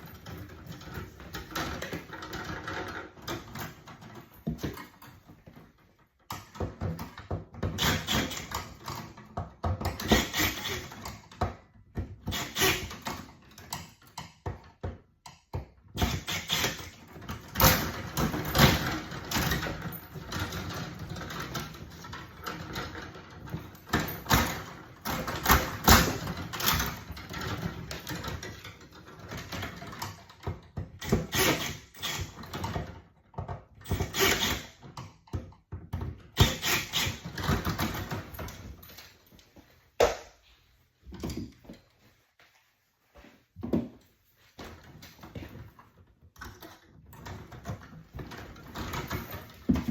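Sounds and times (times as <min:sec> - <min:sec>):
hand tools and wires rattling: 0:00.0 - 0:42.2, 0:43.5 - 0:49.9.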